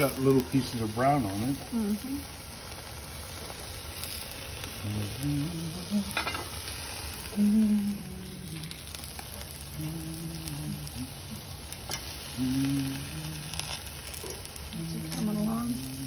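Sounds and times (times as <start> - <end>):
food sizzling on a grill: 0.0 - 16.0.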